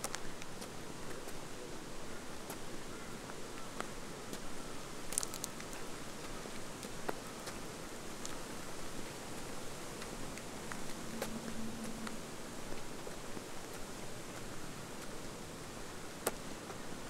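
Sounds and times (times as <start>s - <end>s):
footsteps crunching on dirt track: 2.4s - 16.9s.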